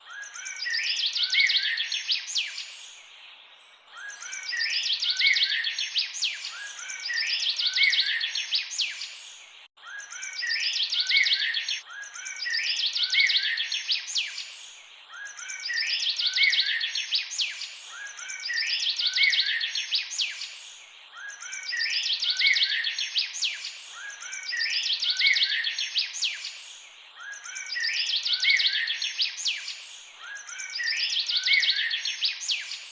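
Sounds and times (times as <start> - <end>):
bird chirps and trills: 3.9 - 32.9.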